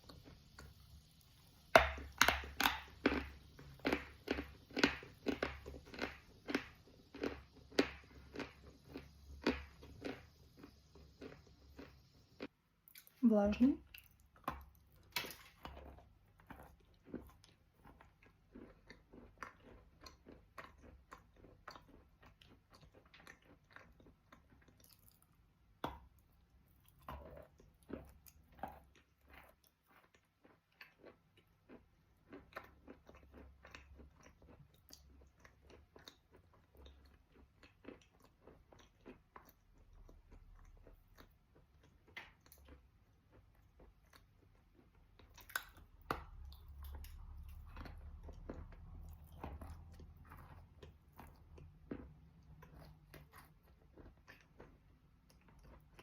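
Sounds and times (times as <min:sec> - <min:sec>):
chewing chalk crunches: 0:01.8 - 0:13.2, 0:13.9 - 0:56.0.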